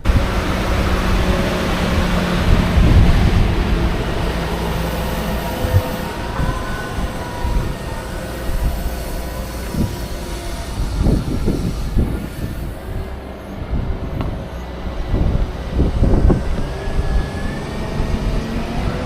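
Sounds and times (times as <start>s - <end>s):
diesel machinery rumbling: 0.0s - 19.0s
machinery whine: 0.0s - 19.0s.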